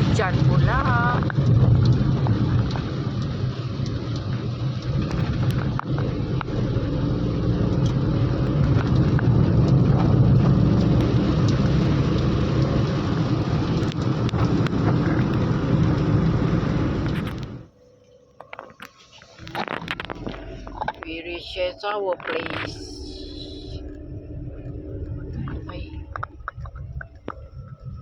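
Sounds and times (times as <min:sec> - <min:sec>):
road or wind noise: 0:00.0 - 0:17.8, 0:18.4 - 0:28.0
vehicle engine hum: 0:00.0 - 0:28.0.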